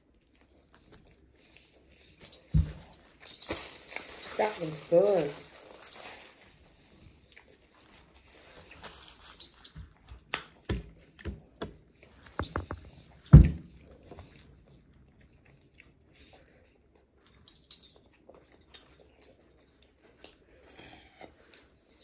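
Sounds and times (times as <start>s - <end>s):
close chewing with mouth clicks: 0.0s - 4.8s, 5.4s - 22.0s.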